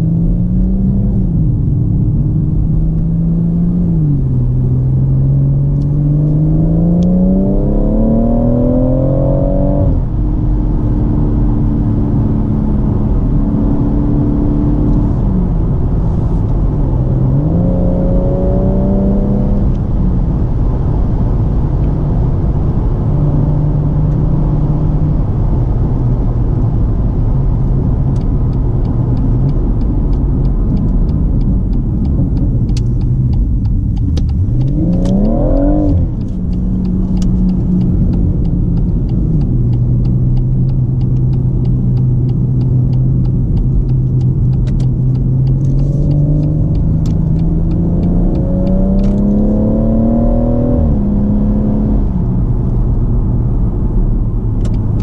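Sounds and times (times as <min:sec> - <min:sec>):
car engine accelerating from inside cabin: 0:00.0 - 0:55.0.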